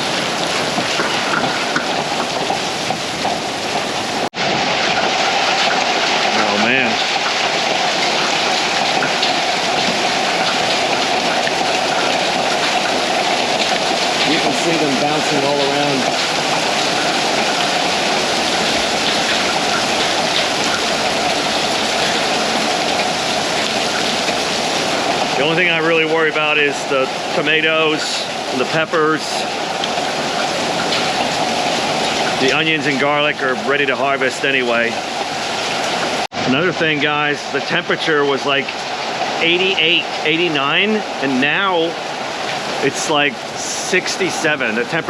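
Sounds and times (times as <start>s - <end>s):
hailstones ticking: 0.0s - 45.0s
heavy rain: 0.0s - 45.0s.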